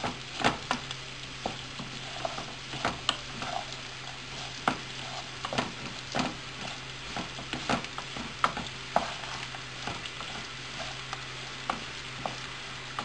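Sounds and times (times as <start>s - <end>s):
rice sizzling in a frying pan: 0.0s - 13.0s
wooden spoon scraping a pan: 0.0s - 13.0s.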